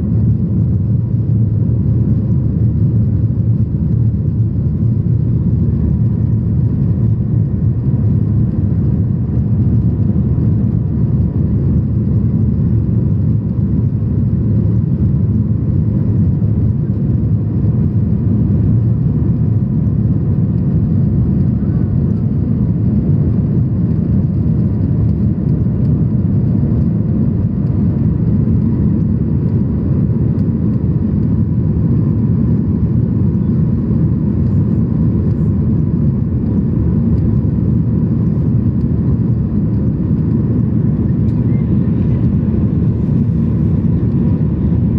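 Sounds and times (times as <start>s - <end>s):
aircraft cabin engine roar: 0.0s - 44.9s
faint steady whine: 0.0s - 44.9s.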